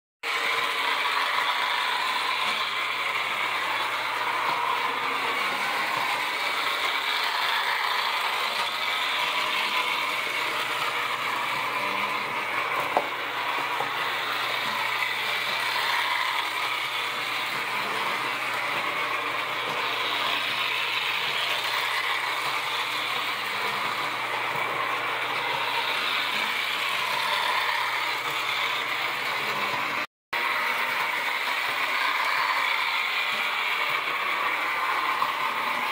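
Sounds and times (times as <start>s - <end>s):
toy trolley motor and wheels clattering: 0.2s - 35.9s.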